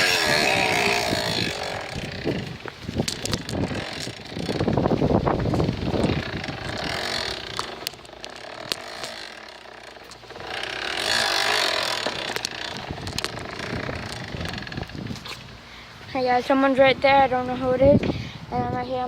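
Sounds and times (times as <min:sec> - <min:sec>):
brake rubbing on tyre: 0:00.0 - 0:15.4
bicycle clicks: 0:00.0 - 0:15.5.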